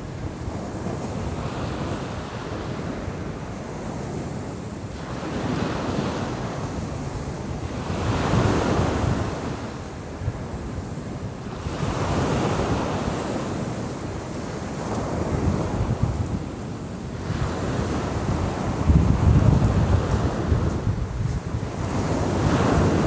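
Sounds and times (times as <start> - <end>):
wind buffeting microphone: 0.0 - 23.0
waves breaking on pebble beach: 0.2 - 23.0.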